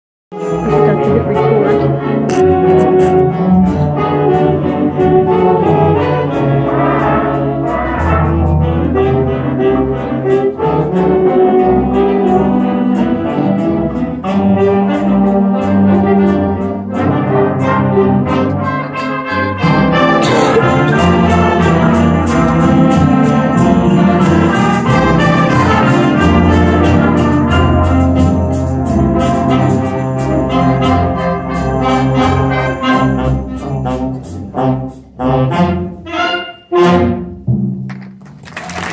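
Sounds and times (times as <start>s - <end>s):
concert band playing: 0.3s - 38.9s.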